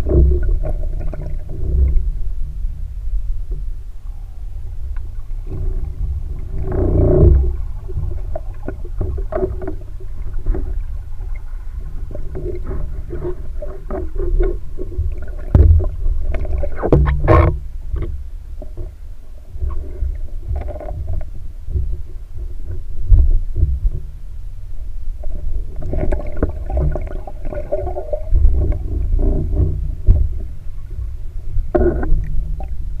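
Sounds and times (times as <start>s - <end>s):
underwater clicks and knocks: 0.0s - 2.6s, 4.9s - 24.2s, 25.2s - 33.0s
underwater rumble of moving water: 0.0s - 33.0s.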